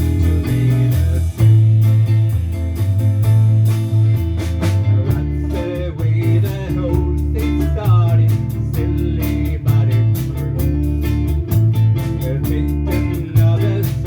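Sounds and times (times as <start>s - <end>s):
bass line: 0.0s - 14.0s
steady drum beat: 0.0s - 14.0s
strummed guitar chords: 0.0s - 14.0s.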